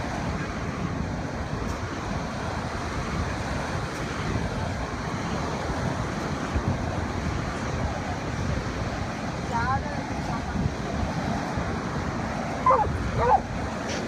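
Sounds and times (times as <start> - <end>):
ocean waves washing onto beach: 0.0 - 14.0
wind buffeting microphone: 0.0 - 14.0.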